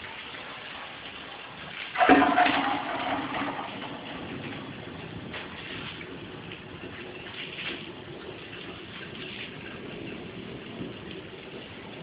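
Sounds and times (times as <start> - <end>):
water drops on wet leaves: 0.0 - 12.0.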